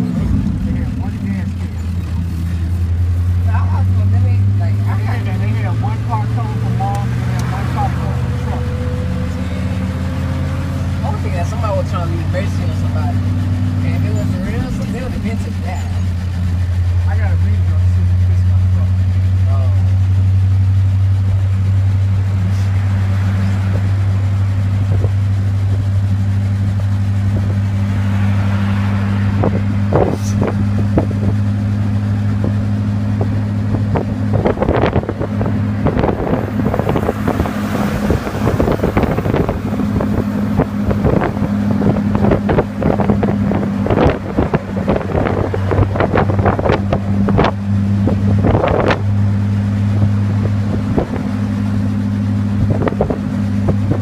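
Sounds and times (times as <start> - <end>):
car cabin engine and road hum: 0.0 - 54.0.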